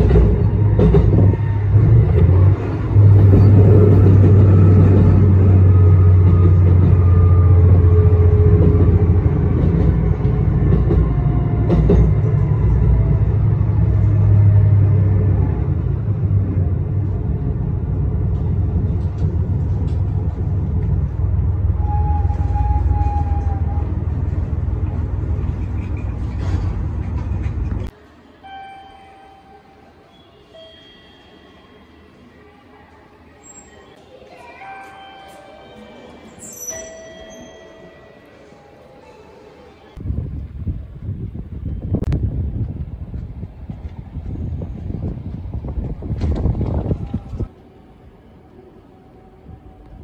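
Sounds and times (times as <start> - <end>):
railcar engine rumble: 0.0 - 50.0.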